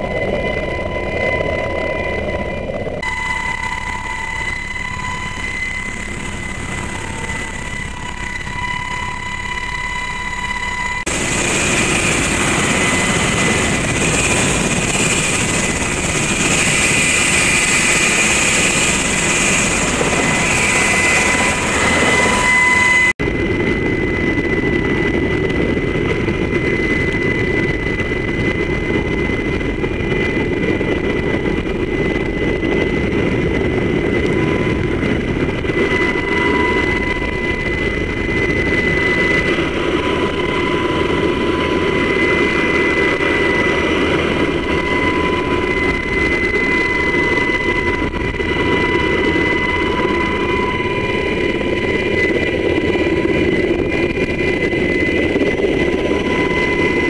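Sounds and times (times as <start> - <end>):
helicopter engines and rotor: 0.0 - 57.0.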